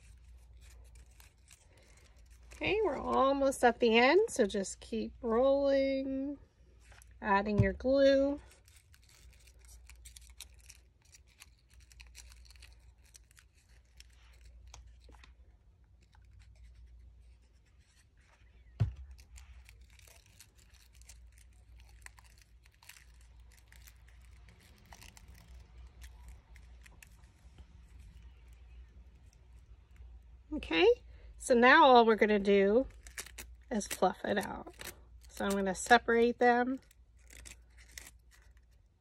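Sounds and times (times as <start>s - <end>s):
paper rustling and crinkling: 0.0s - 4.6s, 8.2s - 30.2s, 32.9s - 36.1s, 36.7s - 39.0s
low steady hum: 0.0s - 39.0s.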